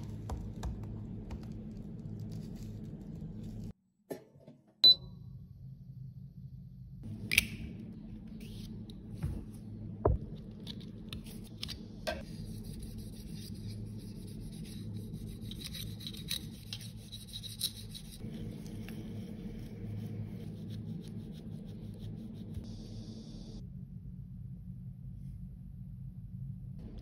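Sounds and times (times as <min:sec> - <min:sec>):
steady low hum: 0:00.0 - 0:03.8, 0:04.9 - 0:27.0.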